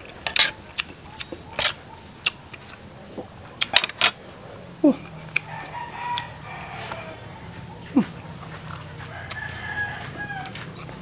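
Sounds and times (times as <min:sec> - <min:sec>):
person chewing wet food: 0:00.0 - 0:03.8, 0:04.9 - 0:11.0.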